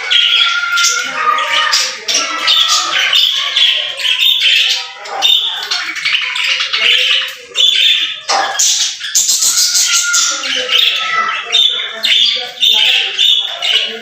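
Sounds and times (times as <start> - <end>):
budgerigars chattering and warbling: 0.0 - 14.0.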